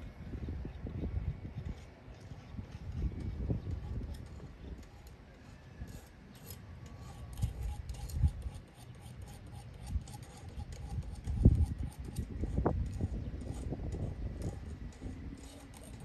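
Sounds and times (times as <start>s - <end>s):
faint scraping and clicks: 1.6s - 16.0s.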